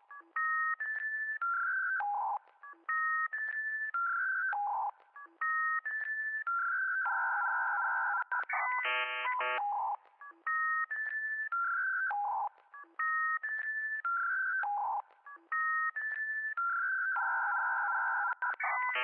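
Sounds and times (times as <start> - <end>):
electronic music of telephone beeps: 0.1 - 19.0.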